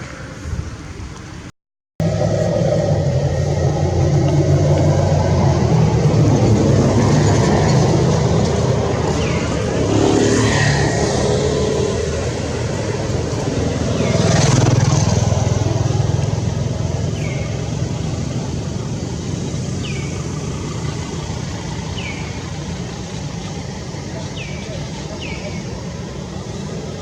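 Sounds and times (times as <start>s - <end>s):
road traffic rumbling: 0.0s - 27.0s
vehicle passing: 2.0s - 27.0s.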